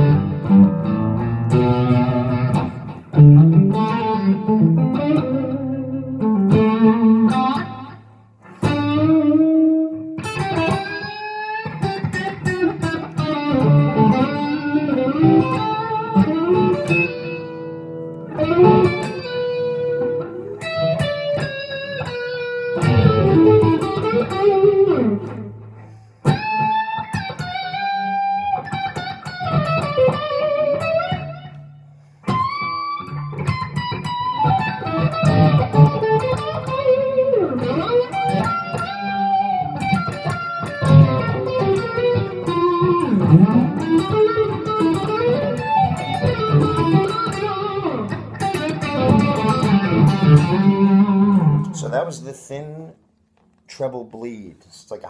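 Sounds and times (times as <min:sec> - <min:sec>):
electric lead guitar: 0:00.0 - 0:52.8.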